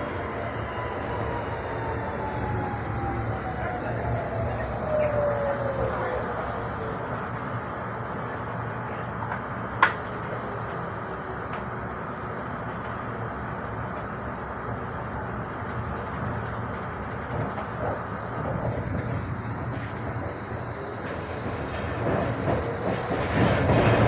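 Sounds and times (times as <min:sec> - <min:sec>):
tram rumbling along track: 0:00.0 - 0:24.0.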